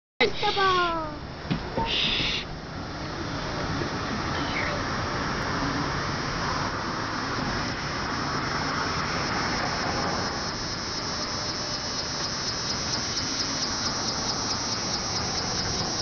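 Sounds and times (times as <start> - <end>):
cicada buzzing: 1.8 - 16.0.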